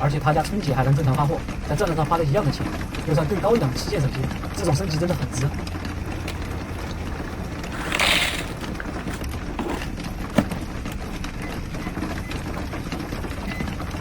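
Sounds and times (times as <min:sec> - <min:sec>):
rain on a roof: 0:00.0 - 0:14.0.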